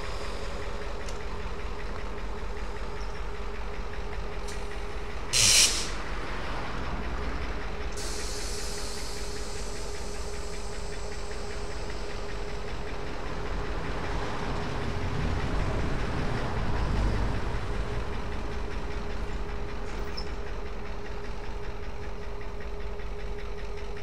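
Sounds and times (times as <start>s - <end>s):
locomotive engines beating: 0.0s - 24.0s
steady locomotive whine: 0.0s - 24.0s.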